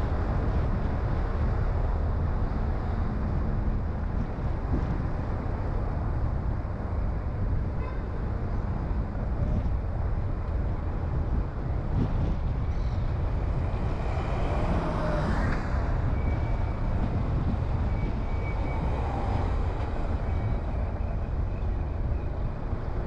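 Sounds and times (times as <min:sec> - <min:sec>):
car tyre and engine rumble: 0:00.0 - 0:23.0.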